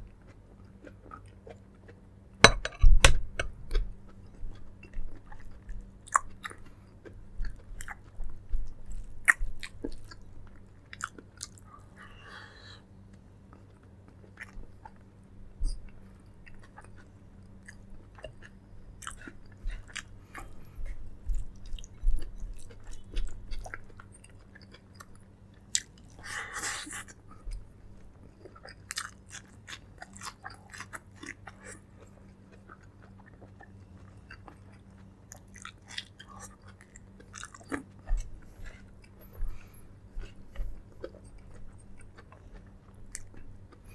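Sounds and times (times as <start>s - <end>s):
person chewing and biting: 0.2s - 11.7s, 13.5s - 43.9s.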